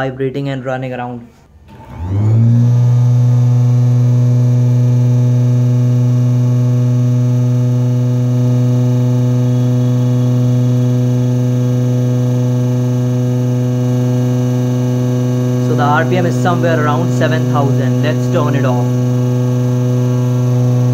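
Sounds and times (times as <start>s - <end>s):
electric motor humming: 1.7s - 20.9s.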